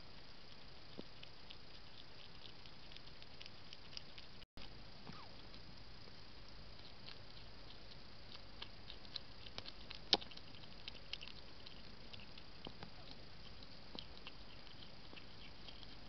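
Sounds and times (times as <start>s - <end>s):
animal chewing dry food: 0.1s - 16.0s.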